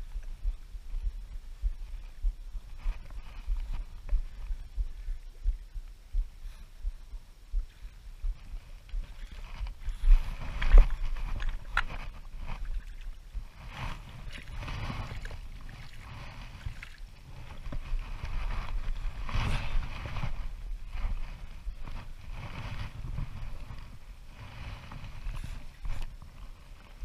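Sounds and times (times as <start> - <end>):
low rumble: 0.0 - 26.5.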